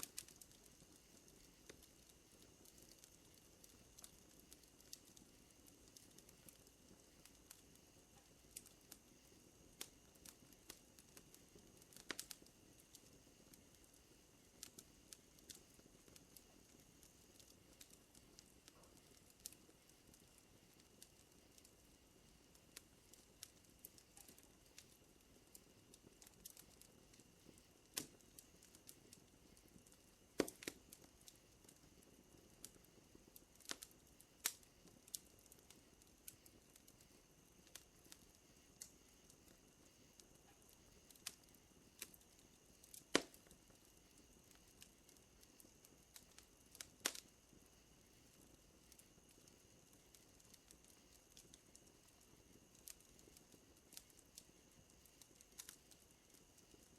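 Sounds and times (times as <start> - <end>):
night insects droning: 0.0 - 56.9
wood fire crackling: 0.0 - 56.9.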